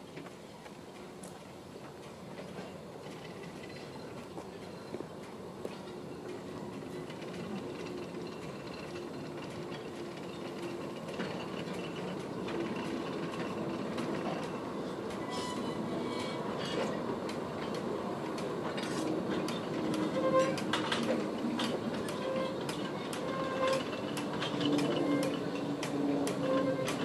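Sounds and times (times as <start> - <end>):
train wheels rumbling on rail: 0.0 - 27.0
wheels clicking over rail joints: 0.0 - 27.0.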